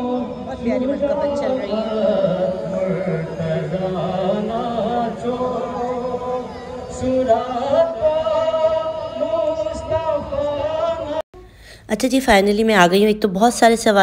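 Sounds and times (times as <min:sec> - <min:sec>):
voices singing together: 0:00.0 - 0:11.2.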